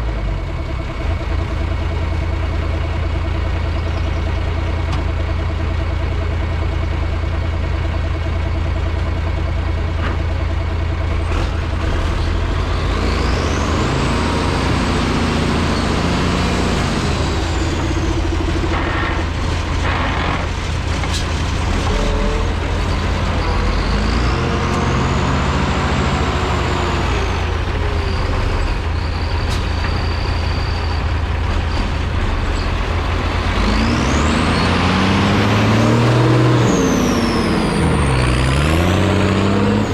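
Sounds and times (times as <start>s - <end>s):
diesel engine idling and revving: 0.0s - 39.9s.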